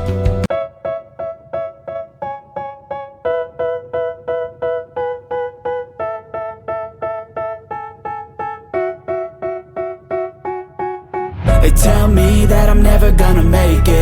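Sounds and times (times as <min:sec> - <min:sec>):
keyboard playing repeated chords: 0:00.0 - 0:14.0.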